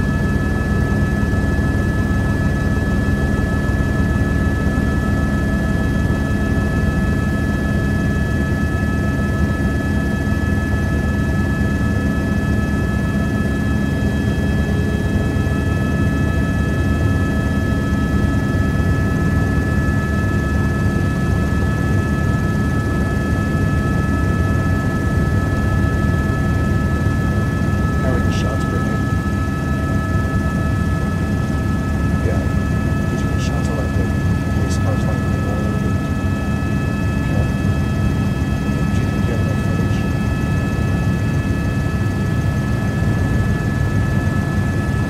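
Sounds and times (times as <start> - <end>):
helicopter engine and rotor drone: 0.0 - 45.0.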